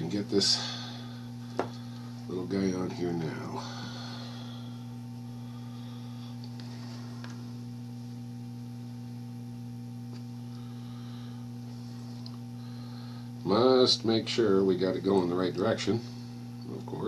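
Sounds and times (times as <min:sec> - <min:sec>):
low electrical mains hum: 0:00.0 - 0:17.0.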